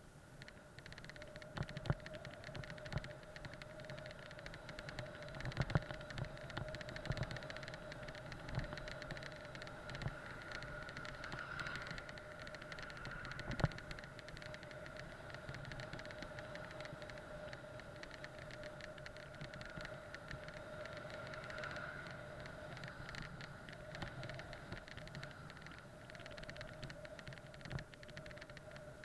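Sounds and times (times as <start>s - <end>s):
rapid small clicks and rattles: 0.0s - 29.0s.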